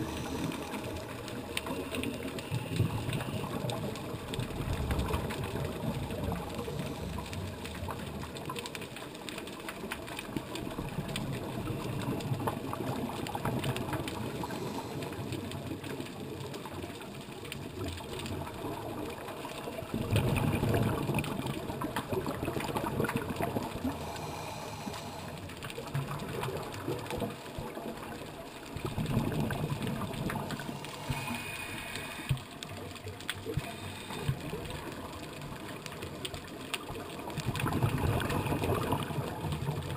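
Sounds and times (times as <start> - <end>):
gurgling regulator bubbles: 0.0 - 39.9
muffled underwater rumbling: 0.0 - 39.9.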